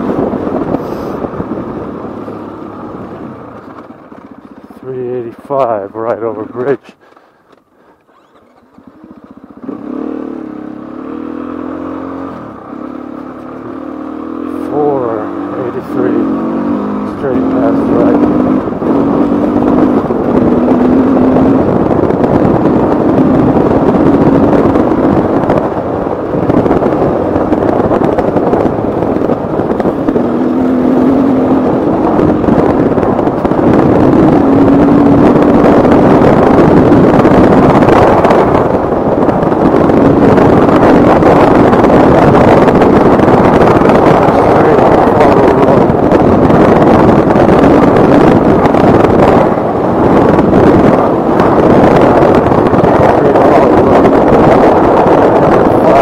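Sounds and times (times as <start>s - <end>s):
motorcycle engine revving: 0.0s - 4.9s, 5.9s - 56.0s.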